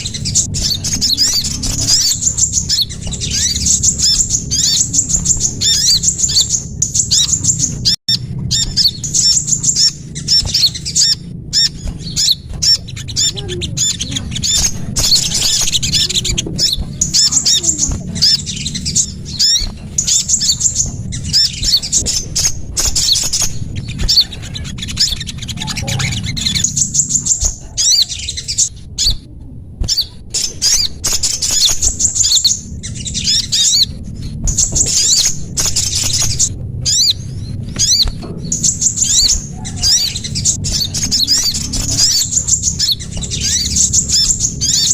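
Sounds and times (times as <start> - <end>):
low steady hum: 0.0 - 44.9
small songbirds chirping: 0.0 - 44.9.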